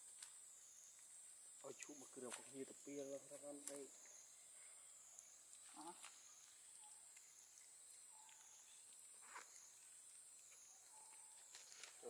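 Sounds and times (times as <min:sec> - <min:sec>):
faint high insect drone: 0:00.0 - 0:12.0.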